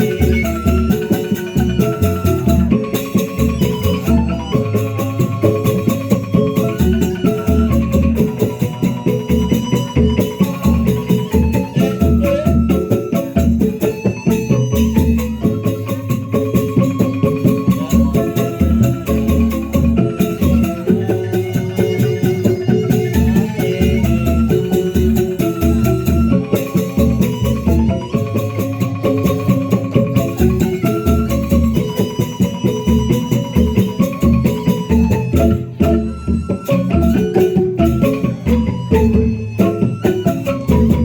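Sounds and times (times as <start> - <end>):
drums and rattles beat: 0.0 - 41.0
pitched struck percussion: 0.0 - 41.0.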